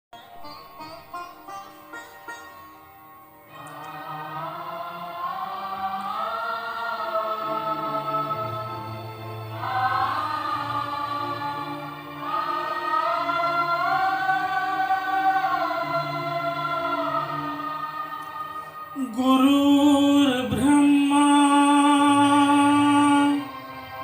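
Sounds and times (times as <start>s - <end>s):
wordless choir-like voices: 3.4s - 24.0s.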